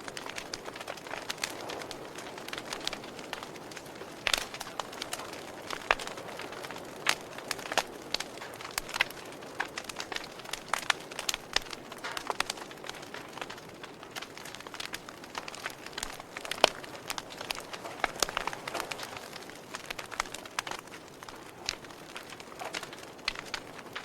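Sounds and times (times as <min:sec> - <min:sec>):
campfire crackling and popping: 0:00.0 - 0:24.0
fire hissing: 0:00.1 - 0:24.0.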